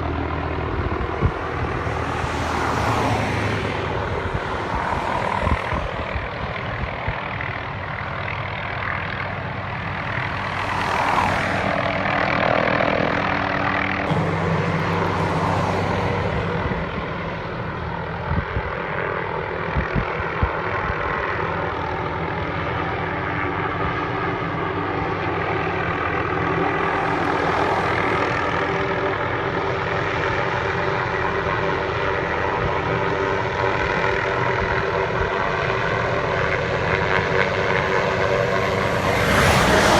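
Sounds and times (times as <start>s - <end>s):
helicopter rotor beating: 0.0s - 39.9s
turbine engine whining: 0.0s - 39.9s.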